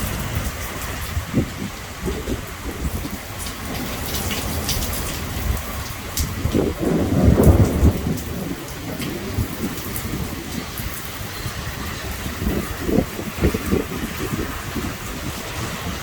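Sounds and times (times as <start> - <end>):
heavy rain pouring: 0.0 - 16.0
raindrops clicking on surfaces: 0.0 - 16.0
thunder rumble: 0.0 - 16.0.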